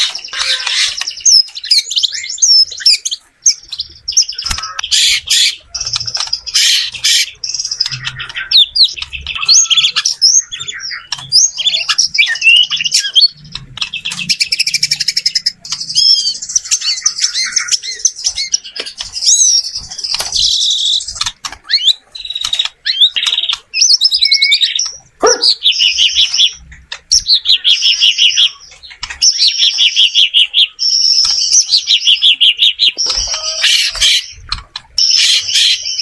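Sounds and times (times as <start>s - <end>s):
bird singing whistled notes: 0.1s - 19.8s, 20.4s - 34.4s.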